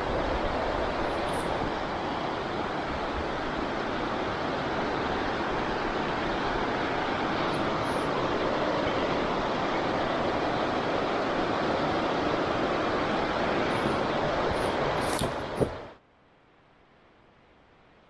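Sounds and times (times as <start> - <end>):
fast-flowing river rushing: 0.0 - 16.0.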